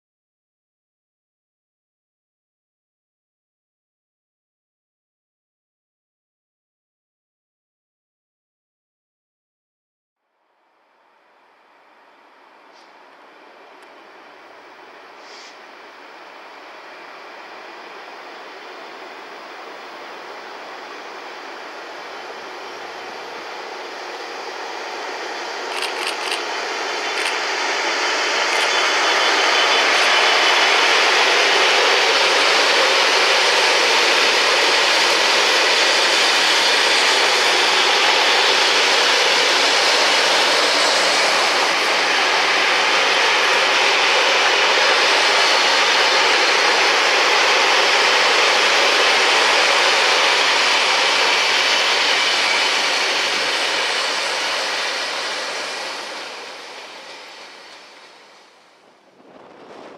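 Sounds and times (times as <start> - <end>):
diesel locomotive passing: 10.6 - 59.9
steel wheels rushing on rail: 10.8 - 59.9.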